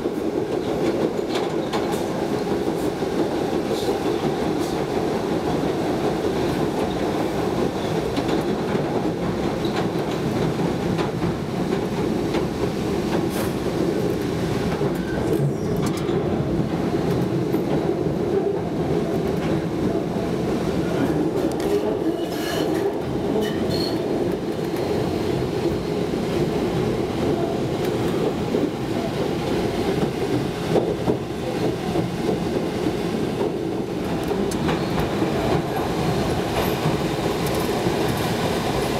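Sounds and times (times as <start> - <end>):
subway train running: 0.0 - 38.9.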